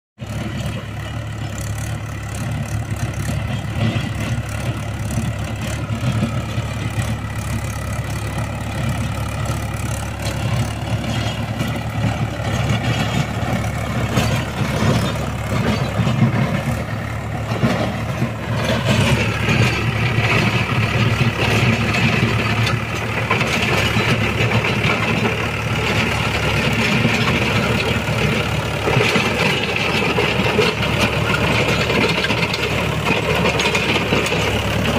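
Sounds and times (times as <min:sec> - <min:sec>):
rotavator churning ground: 0:00.2 - 0:34.9
tractor diesel engine running: 0:00.2 - 0:34.9.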